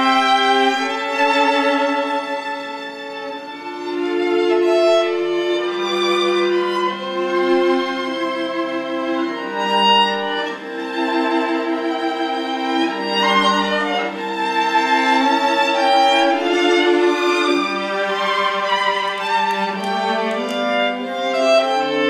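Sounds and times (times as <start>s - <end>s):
slow violin melody: 0.0s - 22.0s.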